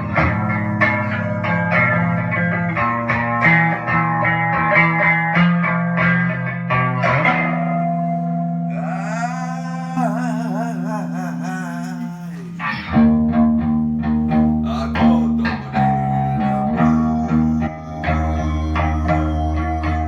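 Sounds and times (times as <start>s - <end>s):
guitar music: 0.0s - 20.0s.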